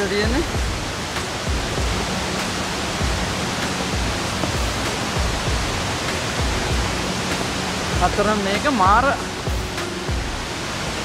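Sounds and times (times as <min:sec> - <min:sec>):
waterfall rushing: 0:00.0 - 0:11.0
low thumps: 0:00.3 - 0:10.5.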